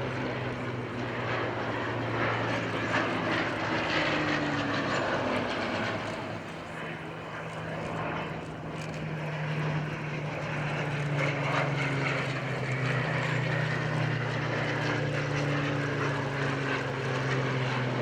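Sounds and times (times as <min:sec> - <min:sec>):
propeller plane flying past: 0:00.0 - 0:18.0.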